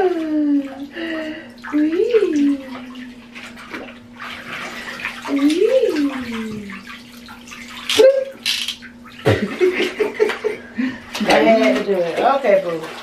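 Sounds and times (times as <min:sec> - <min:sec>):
water pouring and splashing: 0:00.0 - 0:10.4, 0:11.2 - 0:13.0.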